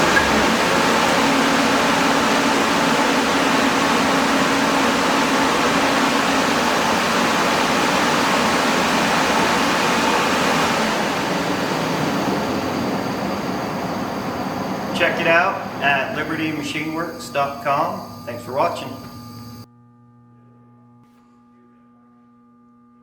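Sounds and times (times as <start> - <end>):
air compressor running: 0.0 - 19.7.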